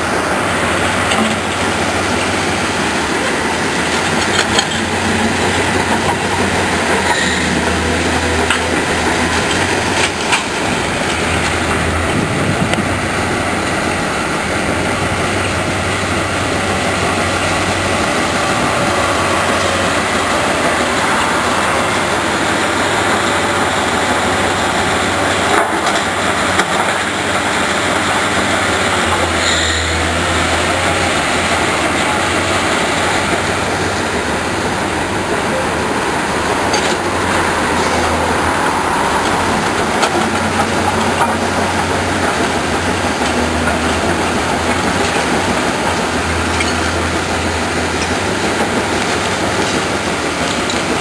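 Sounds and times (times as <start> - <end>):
diesel machinery din: 0.0 - 51.0.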